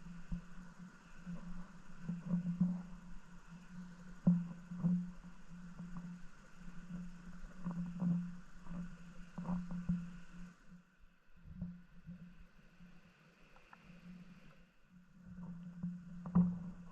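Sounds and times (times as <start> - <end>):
muffled underwater stream water: 0.0 - 16.9.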